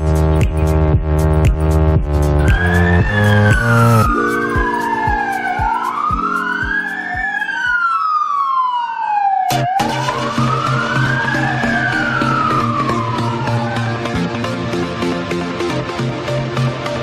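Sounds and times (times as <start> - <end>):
electronic music with bass kick: 0.0 - 7.8, 9.5 - 17.0
wailing sirens: 2.4 - 16.8.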